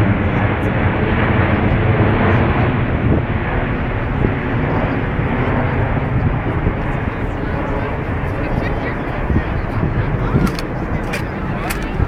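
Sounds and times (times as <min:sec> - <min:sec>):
jet airliner fly-by rumble: 0:00.0 - 0:12.0.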